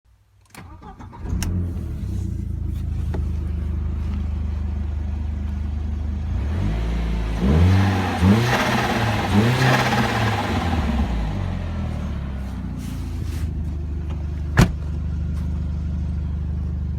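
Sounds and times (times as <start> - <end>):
car engine idling and revving: 0.6 - 16.9.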